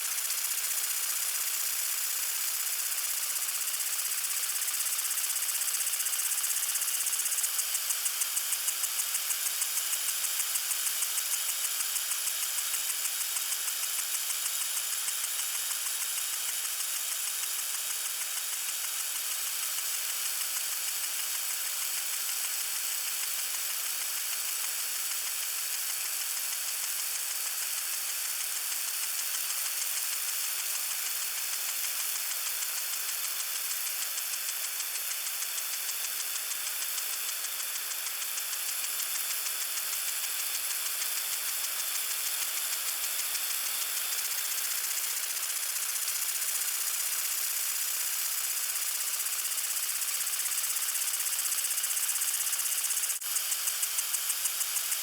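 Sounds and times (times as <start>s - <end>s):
water sprinkler spraying: 0.0s - 55.0s.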